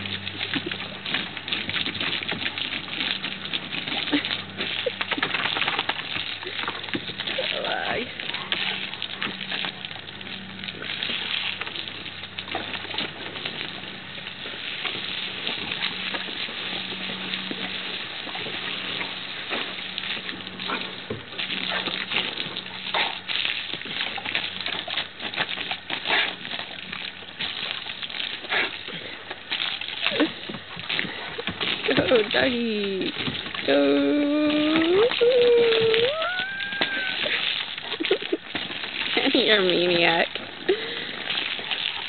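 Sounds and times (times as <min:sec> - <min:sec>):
dogs snapping at water: 0:00.0 - 0:42.0
hose spray on mulch: 0:00.0 - 0:42.0.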